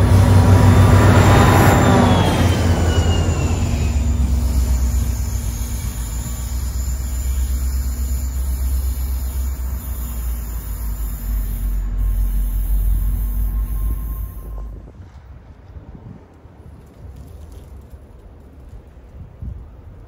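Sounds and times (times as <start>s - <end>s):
train passing rumble: 0.0s - 20.0s.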